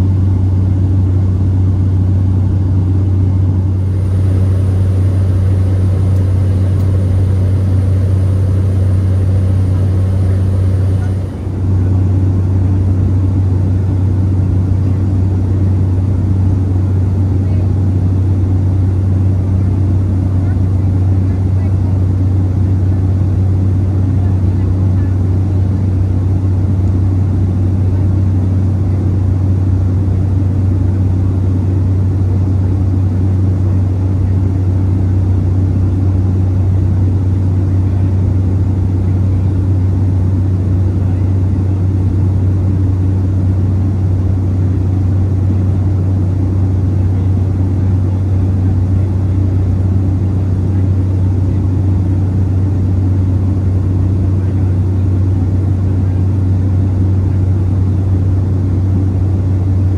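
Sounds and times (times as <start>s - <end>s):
turboprop engine drone in cabin: 0.0s - 59.9s.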